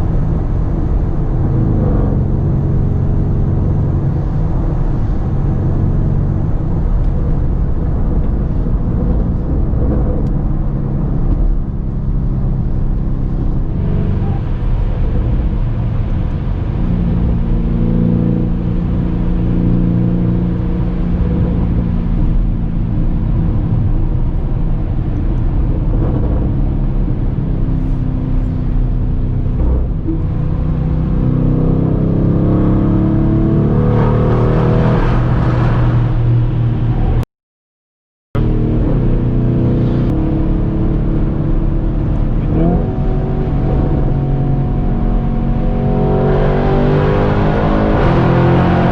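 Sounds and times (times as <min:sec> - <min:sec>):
car engine accelerating: 0:00.0 - 0:37.2, 0:38.4 - 0:48.9.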